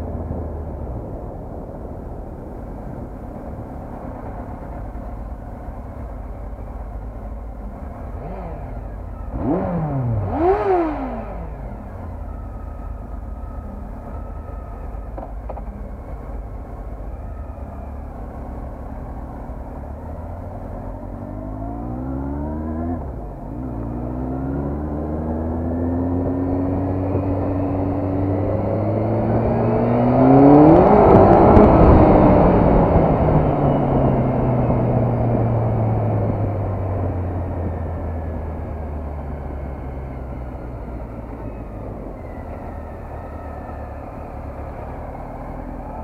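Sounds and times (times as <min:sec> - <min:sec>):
motorcycle engine revving: 0:03.9 - 0:46.0.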